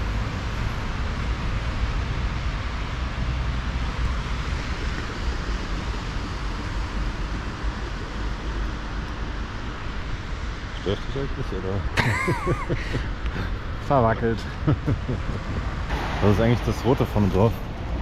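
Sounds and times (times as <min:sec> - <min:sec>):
deep traffic rumble: 0:00.0 - 0:18.0
road traffic hiss: 0:00.0 - 0:18.0.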